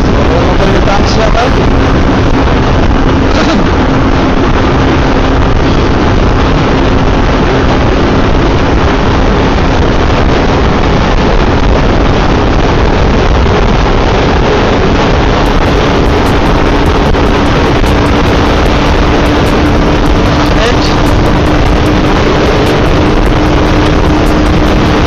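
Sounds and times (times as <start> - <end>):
motorcycle engine humming: 0.0 - 25.0
wind rush over microphone: 0.0 - 25.0.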